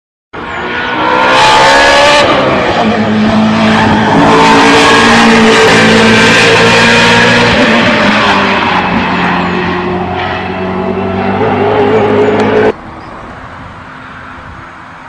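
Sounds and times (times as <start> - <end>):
race car engine at high revs: 0.4 - 12.8.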